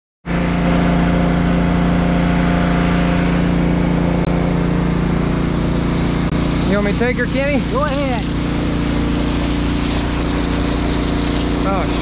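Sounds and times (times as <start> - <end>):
engine drone: 0.2 - 12.0
fire hoses spraying water: 0.4 - 12.0.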